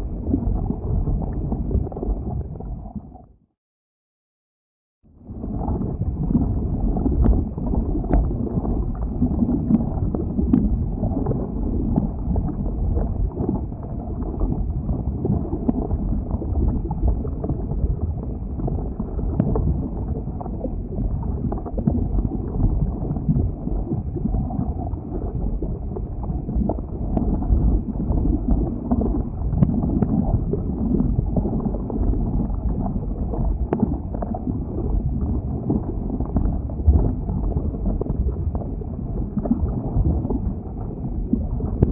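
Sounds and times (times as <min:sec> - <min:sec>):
lava low rumble: 0:00.0 - 0:03.4, 0:05.1 - 0:41.9.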